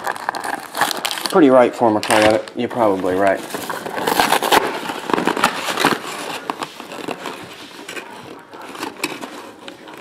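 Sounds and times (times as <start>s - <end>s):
foil wrappers crinkling: 0.0s - 10.0s.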